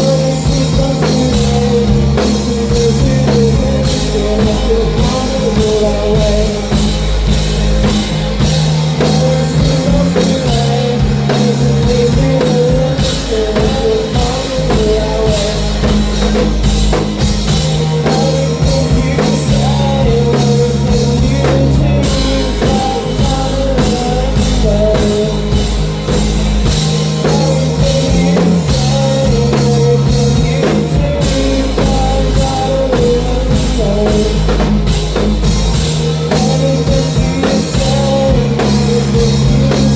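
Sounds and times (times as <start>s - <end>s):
bass line: 0.0s - 39.9s
drum kit beat: 0.0s - 39.9s
electric guitar: 0.0s - 39.9s
person singing: 0.0s - 39.9s.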